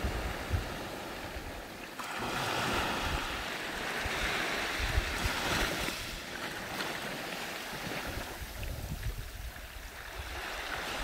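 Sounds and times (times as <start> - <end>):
small waves washing up a beach: 0.0 - 11.0
wind buffeting the microphone: 0.0 - 11.0.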